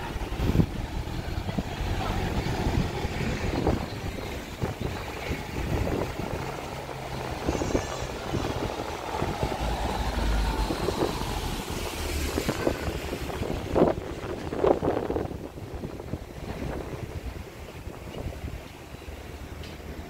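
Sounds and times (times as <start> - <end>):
truck engine rumble passing: 0.0 - 20.0.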